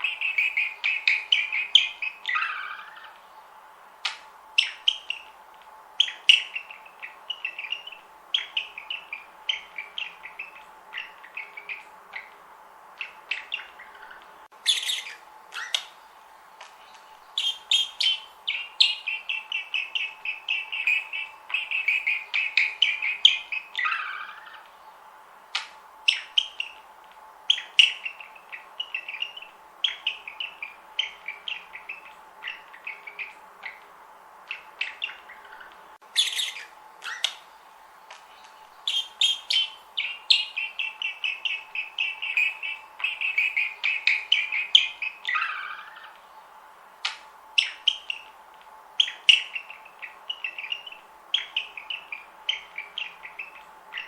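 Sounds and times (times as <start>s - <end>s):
budgerigars chirping: 0.0s - 5.4s, 6.0s - 54.0s.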